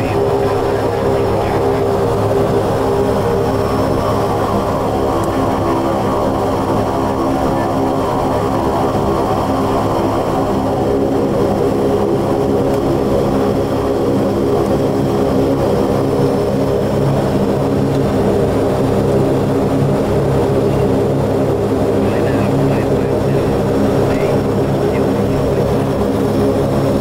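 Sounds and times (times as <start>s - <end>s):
turboprop engines droning: 0.0s - 27.0s.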